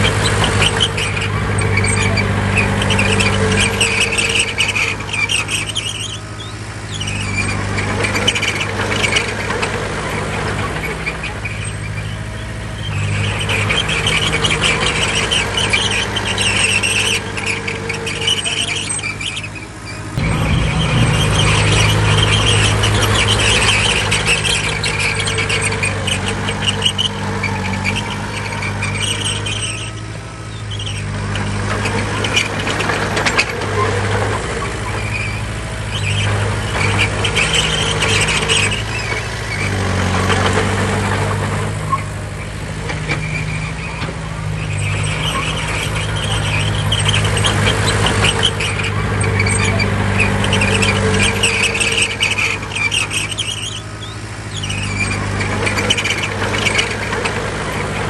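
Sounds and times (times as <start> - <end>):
bulldozer diesel engine: 0.0 - 58.0
high machine squealing: 0.0 - 58.0.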